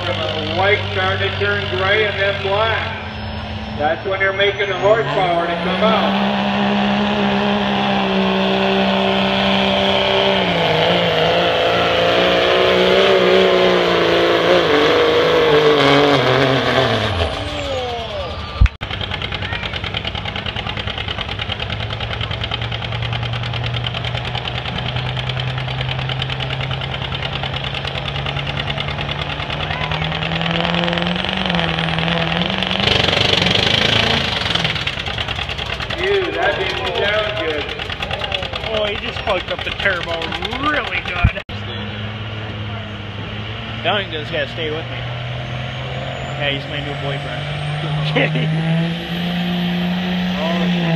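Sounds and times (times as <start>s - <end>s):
diesel truck engine at high revs: 0.0s - 50.9s.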